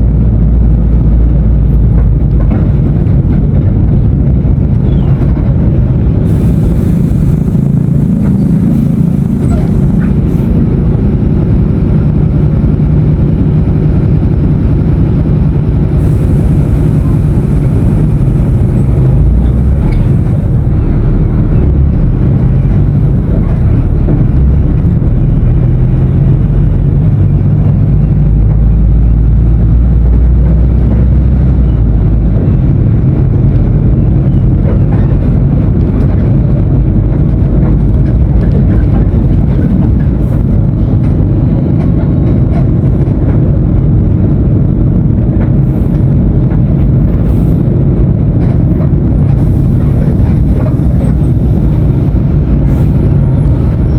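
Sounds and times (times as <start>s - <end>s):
bus diesel engine running: 0.0s - 53.9s.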